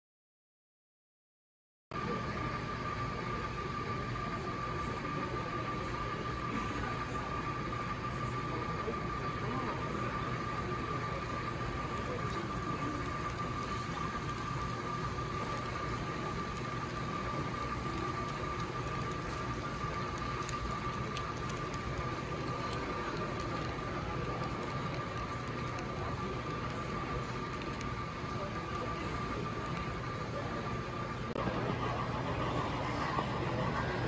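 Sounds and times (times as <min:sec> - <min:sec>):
model train running on track: 0:02.0 - 0:34.0.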